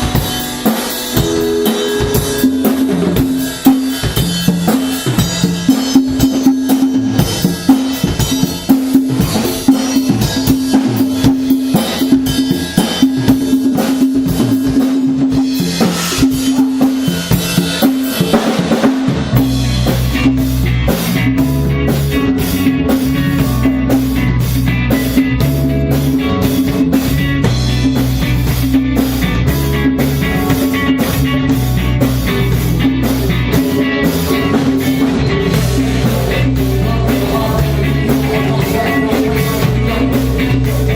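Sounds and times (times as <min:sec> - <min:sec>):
drum kit: 0:00.0 - 0:40.9
rock band playing: 0:00.0 - 0:40.9.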